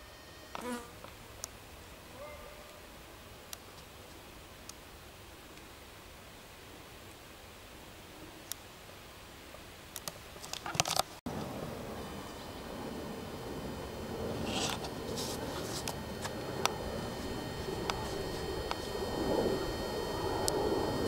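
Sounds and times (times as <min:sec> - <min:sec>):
hoverfly high-pitched whine: 0:00.0 - 0:08.4, 0:11.3 - 0:21.0.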